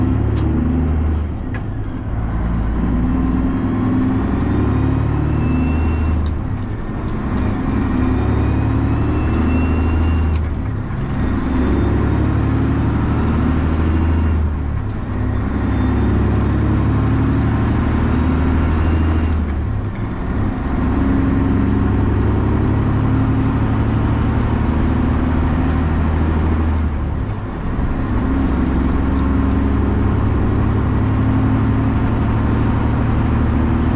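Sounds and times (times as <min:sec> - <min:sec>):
diesel truck exhaust through gears: 0:00.0 - 0:33.9.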